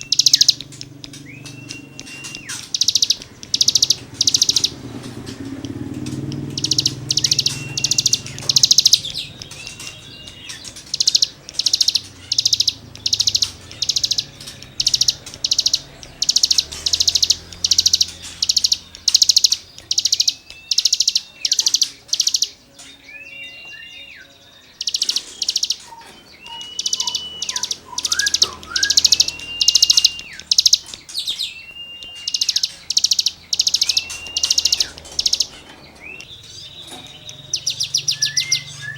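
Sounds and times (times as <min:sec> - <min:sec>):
songbird singing buzzy phrases: 0:00.0 - 0:38.9.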